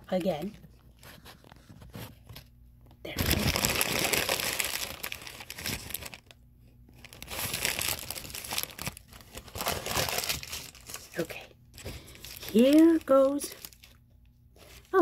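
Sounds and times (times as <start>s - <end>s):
paper wrapper crinkling: 0.0s - 2.5s, 3.1s - 14.0s.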